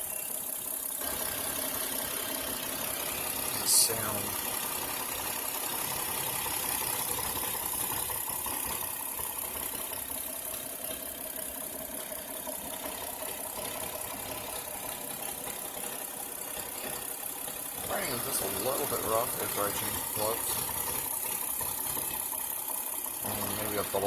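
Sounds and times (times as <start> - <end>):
car engine idling rough: 0.0 - 24.0
engine clicking: 0.0 - 24.0.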